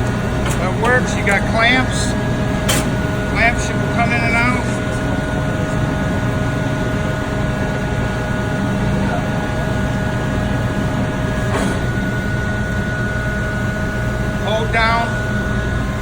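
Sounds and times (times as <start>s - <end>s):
bandsaw motor humming: 0.0s - 16.0s.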